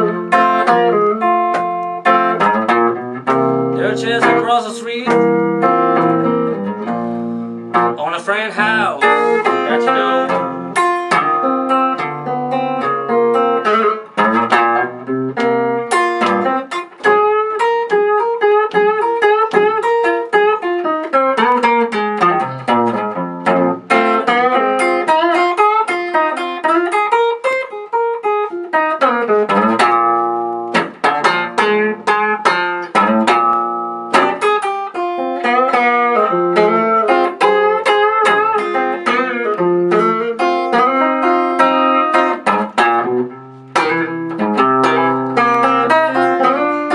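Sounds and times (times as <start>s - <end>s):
blues guitar playing: 0.0s - 46.9s.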